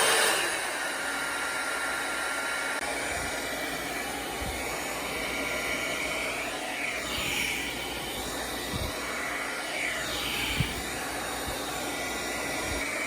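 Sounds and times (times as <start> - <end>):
hair dryer brush blowing air: 0.0 - 13.0.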